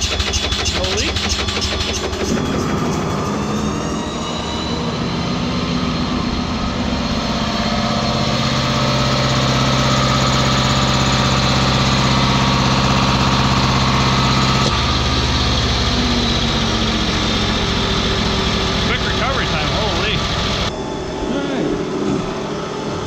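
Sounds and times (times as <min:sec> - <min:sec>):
engine running steadily: 0:00.0 - 0:23.0
deep steady hum: 0:00.7 - 0:23.0.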